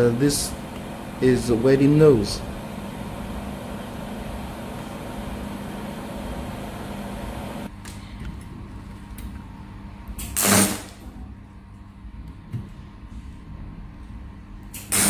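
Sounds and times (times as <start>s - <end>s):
laser welding machine hum: 0.0s - 15.0s.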